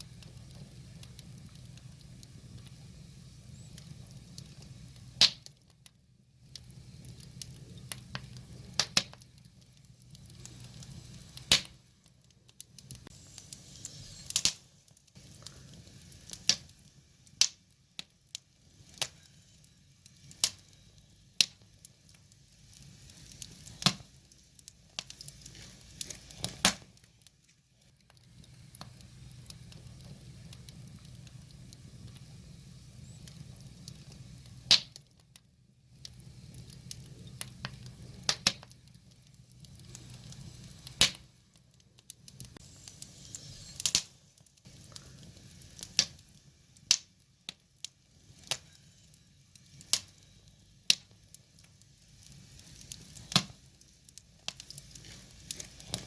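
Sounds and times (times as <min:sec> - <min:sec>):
low steady rumble: 0:00.0 - 0:21.4, 0:22.4 - 0:46.7
wood fire crackling: 0:00.0 - 0:56.0.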